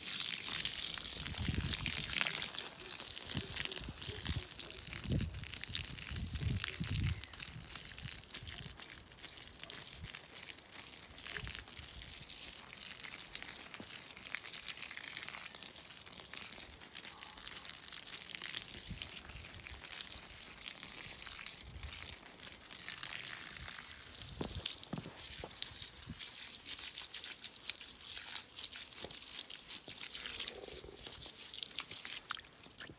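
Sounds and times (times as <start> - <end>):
garden hose spraying water: 0.0 - 32.9.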